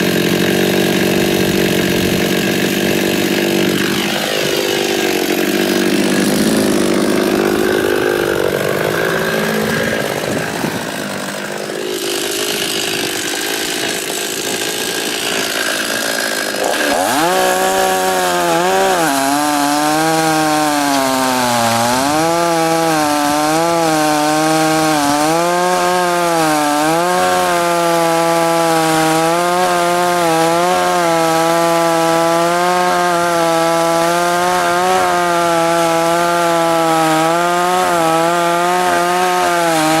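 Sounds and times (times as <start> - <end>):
chainsaw cutting logs: 0.0 - 40.0.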